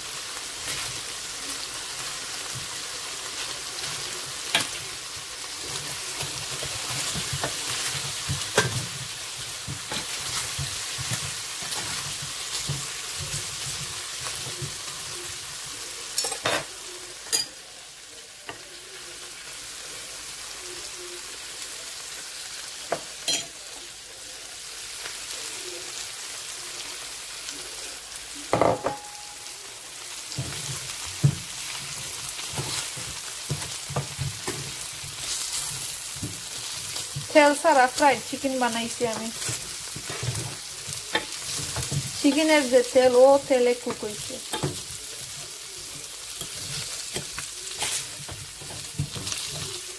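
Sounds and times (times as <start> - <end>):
chicken sizzling in a skillet: 0.0 - 49.9.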